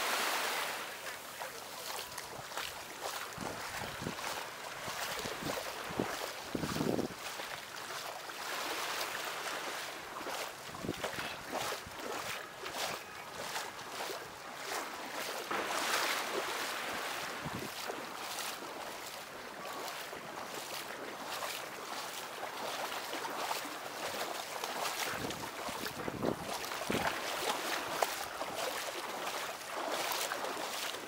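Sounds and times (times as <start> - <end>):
small waves lapping at shore: 0.0 - 31.0.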